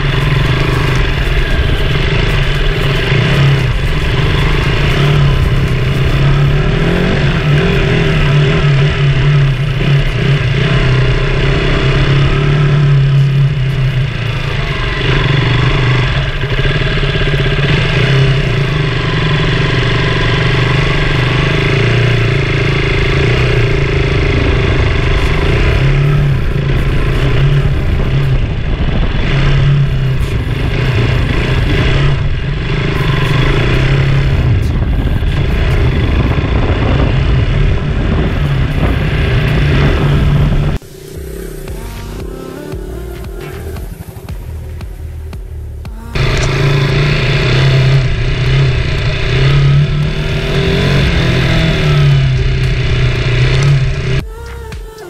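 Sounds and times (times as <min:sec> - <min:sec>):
motorcycle engine running: 0:00.0 - 0:55.0
tyres rumbling on loose ground: 0:00.0 - 0:55.0.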